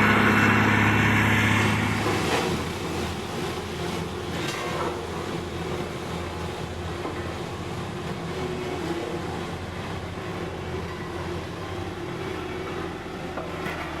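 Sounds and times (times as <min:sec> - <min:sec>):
mechanical rumble: 0:00.0 - 0:13.2
diesel machinery engine drone: 0:00.0 - 0:14.0.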